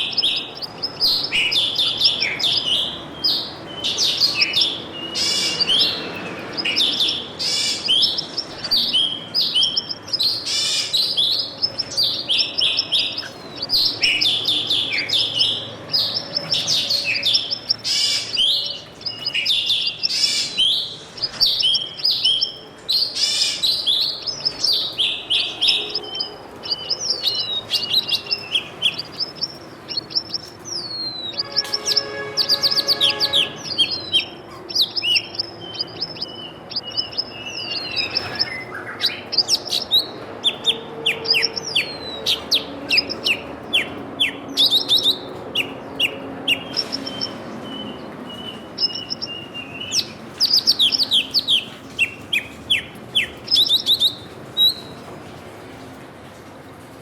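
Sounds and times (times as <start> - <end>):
small birds chirping: 0.0 - 55.3.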